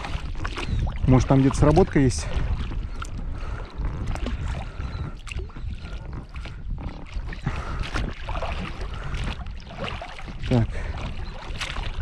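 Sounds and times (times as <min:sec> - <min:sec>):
oars splashing in water: 0:00.0 - 0:12.0
wind rumbling on microphone: 0:00.0 - 0:12.0.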